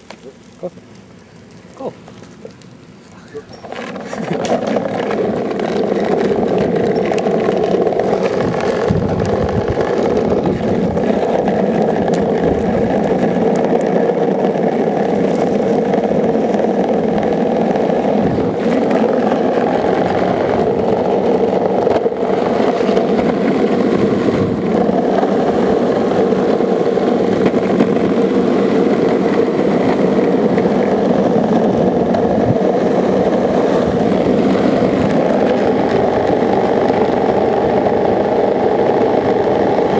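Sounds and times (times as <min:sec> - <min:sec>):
longboard wheels rolling on asphalt: 0:00.0 - 0:39.9
wind buffeting microphone: 0:03.2 - 0:39.9.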